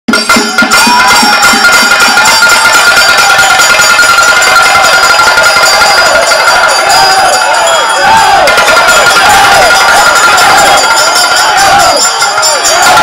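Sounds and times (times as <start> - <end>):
clanging metal cymbals: 0.1 - 13.0
percussion ensemble: 0.1 - 13.0.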